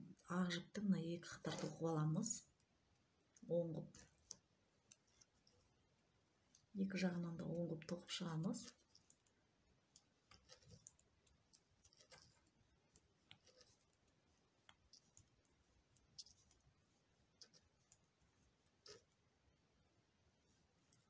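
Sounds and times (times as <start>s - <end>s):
knitting needles clicking: 0.0s - 19.4s.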